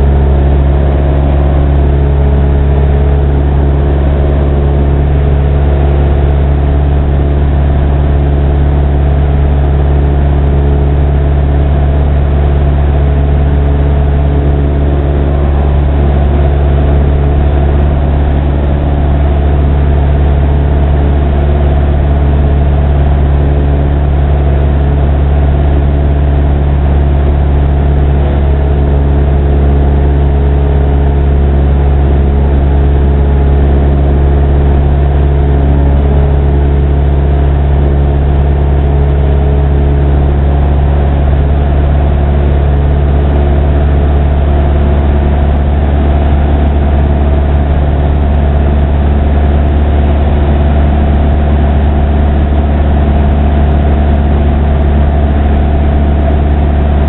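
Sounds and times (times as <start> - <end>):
airplane engine droning: 0.0 - 57.0.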